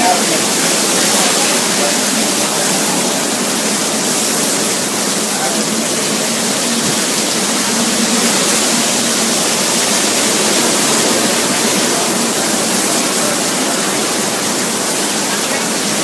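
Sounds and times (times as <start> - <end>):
strong wind rushing: 0.0 - 16.0
wind-driven rain: 0.0 - 16.0.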